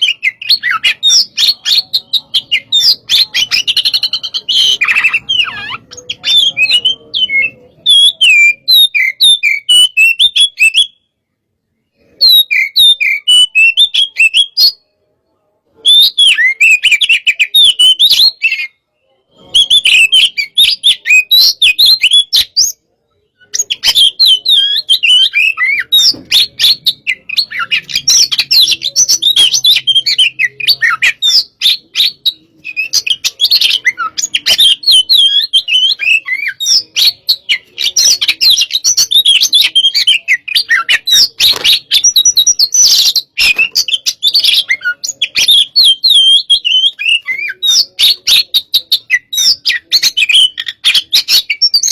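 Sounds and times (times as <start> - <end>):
bird singing whistled notes: 0.0 - 11.1, 12.0 - 14.9, 15.8 - 51.9.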